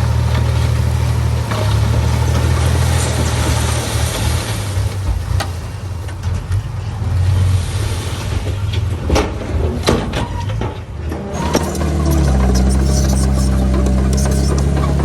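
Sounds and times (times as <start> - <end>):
diesel engine running: 0.0 - 9.1, 10.7 - 15.0.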